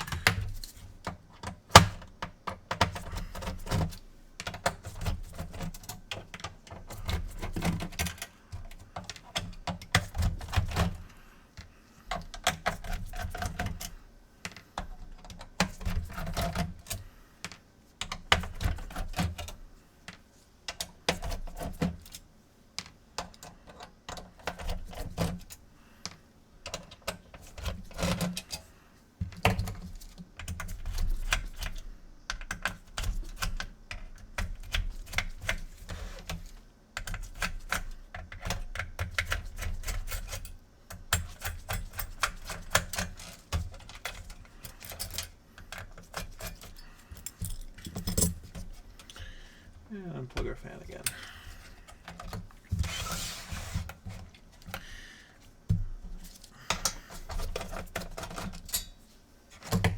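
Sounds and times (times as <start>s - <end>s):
plastic and metal parts clattering: 0.0s - 22.2s, 32.4s - 49.5s, 50.4s - 59.9s.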